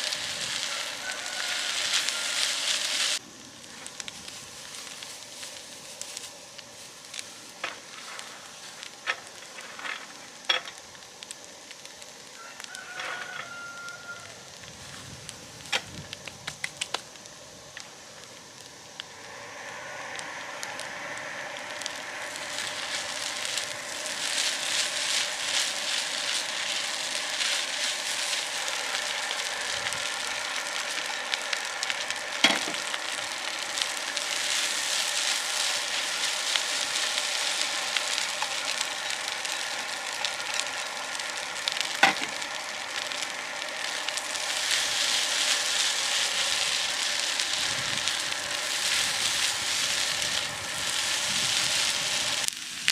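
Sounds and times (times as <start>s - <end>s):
food sizzling in hot oil: 0.0s - 52.9s.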